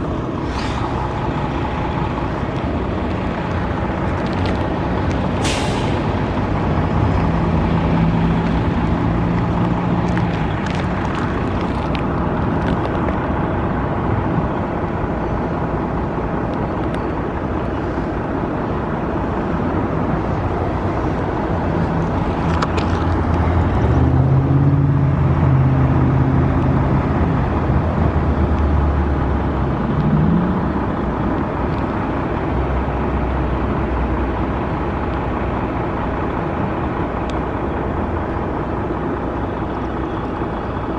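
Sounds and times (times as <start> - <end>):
vehicle engines passing: 0.0 - 40.9.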